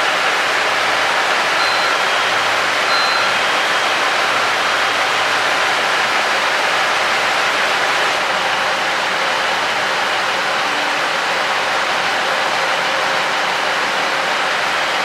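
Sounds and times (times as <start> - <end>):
diesel railcar engine drone: 0.0 - 15.0.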